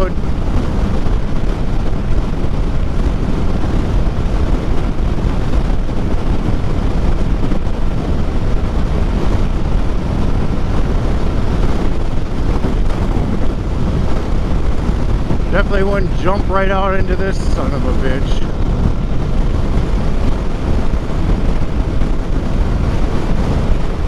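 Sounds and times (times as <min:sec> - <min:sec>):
motorcycle running at speed: 0:00.0 - 0:24.0
wind buffeting helmet microphone: 0:00.0 - 0:24.0.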